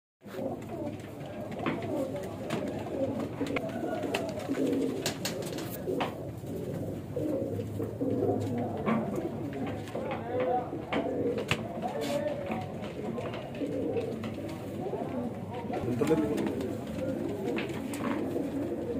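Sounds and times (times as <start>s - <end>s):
pigeons cooing: 0.2s - 18.9s.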